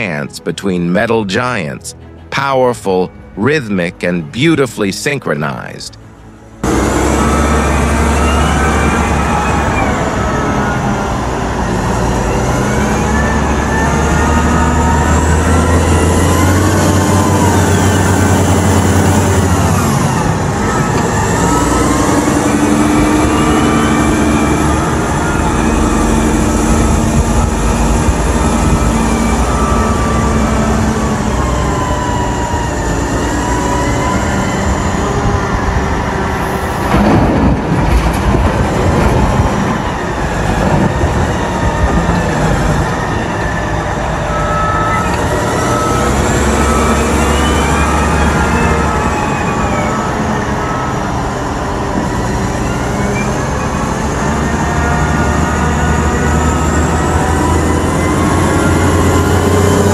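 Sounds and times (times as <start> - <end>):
diesel engine under load: 0.0 - 59.9
engine whine: 0.0 - 59.9.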